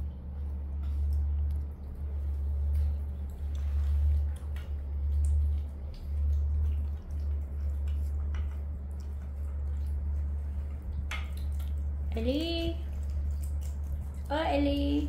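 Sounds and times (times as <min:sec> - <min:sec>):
low wavering rumble: 0:00.0 - 0:15.0
monkeys eating with wet smacking: 0:00.0 - 0:15.0.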